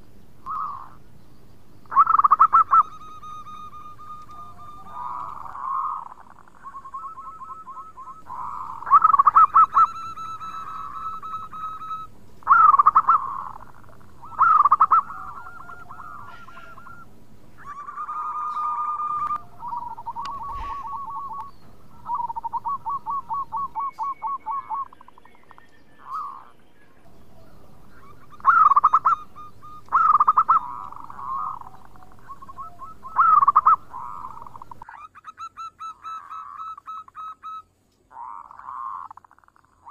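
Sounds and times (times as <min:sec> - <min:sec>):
dove cooing: 0:00.0 - 0:01.1, 0:01.9 - 0:39.9.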